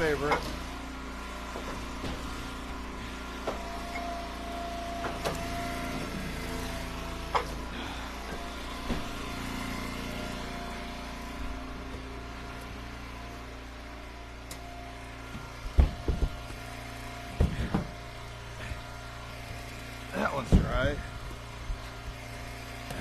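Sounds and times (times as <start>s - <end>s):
wood splitter engine running: 0.0s - 23.0s.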